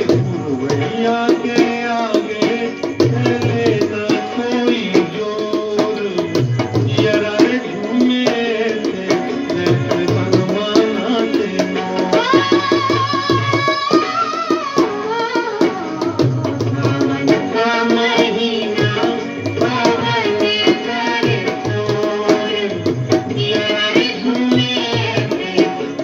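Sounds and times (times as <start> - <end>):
hand drum folk rhythm: 0.0 - 26.0.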